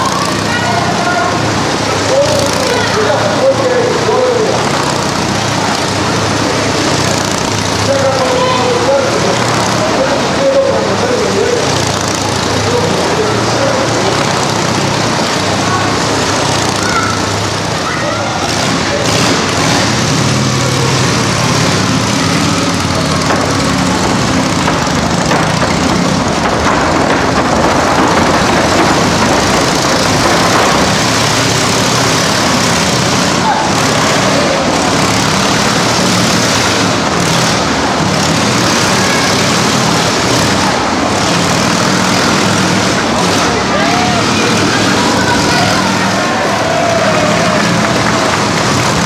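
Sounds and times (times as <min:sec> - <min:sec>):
motorcycle running at speed: 0:00.0 - 0:49.0.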